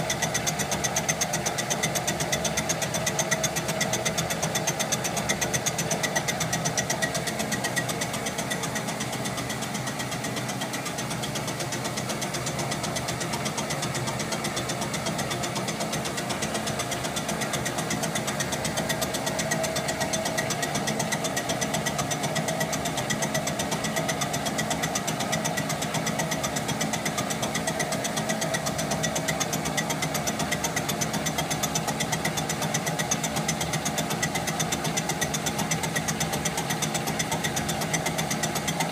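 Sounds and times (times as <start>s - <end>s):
steady whine: 0.0s - 32.3s
fast even ticking: 0.0s - 38.9s
lathe running: 0.0s - 38.9s.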